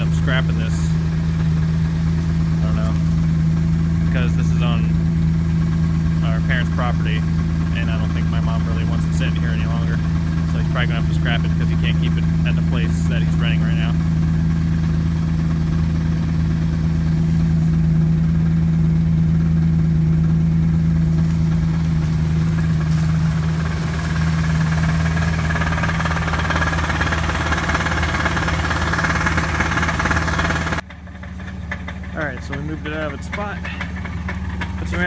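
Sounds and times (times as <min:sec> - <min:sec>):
car engine idling with knock: 0:00.0 - 0:35.0.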